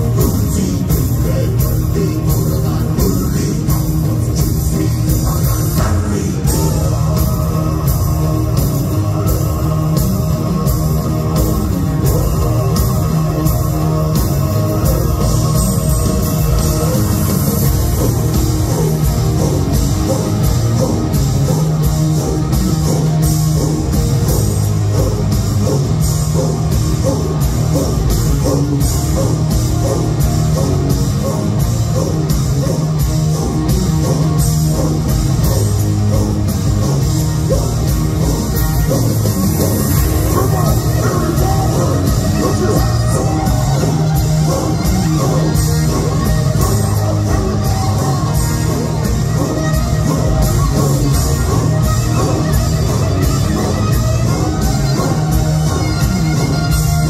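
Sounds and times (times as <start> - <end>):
drums: 0.0 - 57.0
electric guitars: 0.0 - 57.0
heavy rock band playing loud: 0.0 - 57.0
person singing: 0.0 - 57.0.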